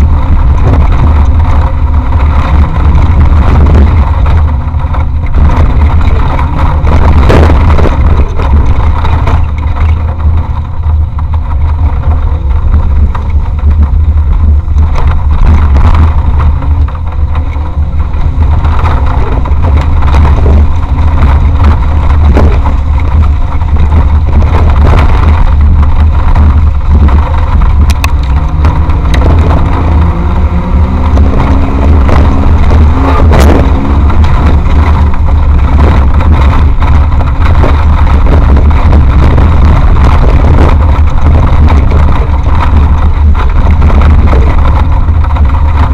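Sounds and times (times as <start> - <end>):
off-road vehicle engine rumble: 0.0 - 45.9.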